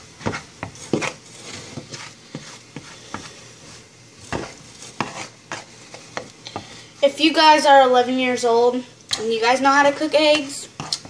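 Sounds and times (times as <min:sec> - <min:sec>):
utensil scraping a frying pan: 0:00.0 - 0:07.1, 0:09.2 - 0:11.0.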